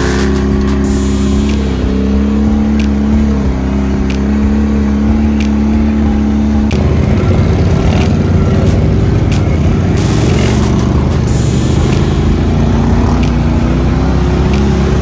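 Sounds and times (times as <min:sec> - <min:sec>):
atv engine running: 0:00.0 - 0:15.0
rough noisy engine running: 0:00.0 - 0:15.0.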